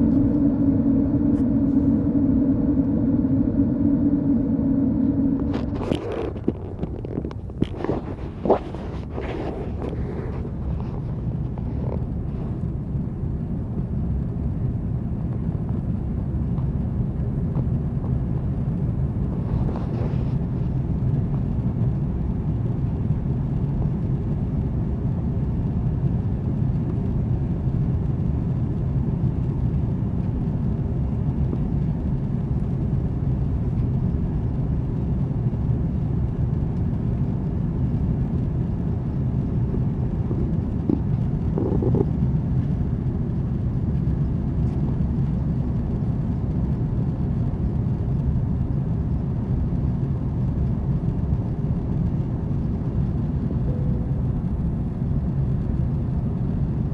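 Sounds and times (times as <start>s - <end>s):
airplane cabin engine rumble: 0.0s - 56.9s.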